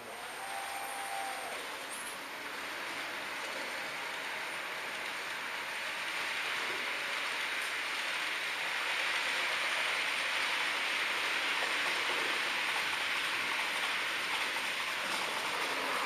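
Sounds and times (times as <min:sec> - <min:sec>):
model train wheels on rails: 0:00.0 - 0:16.0.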